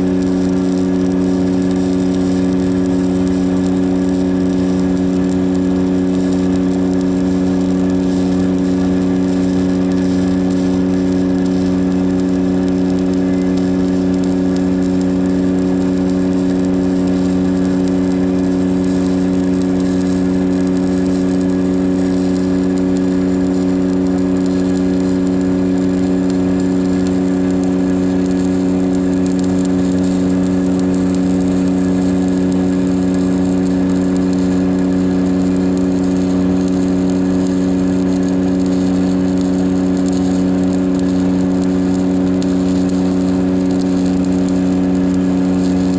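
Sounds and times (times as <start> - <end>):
welding generator engine drone: 0.0 - 45.9.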